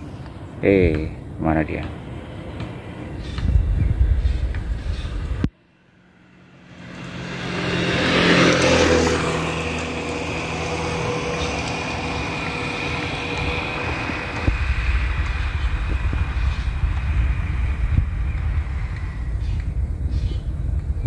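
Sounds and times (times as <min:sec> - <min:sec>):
vehicle engine noise: 0:00.0 - 0:21.0
low rumble: 0:01.9 - 0:21.0.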